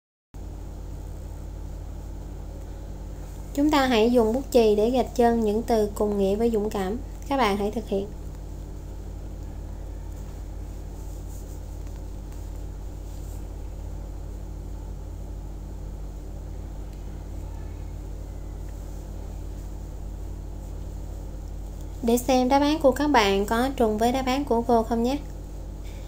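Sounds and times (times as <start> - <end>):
low background hum and rumble: 0.4 - 26.0.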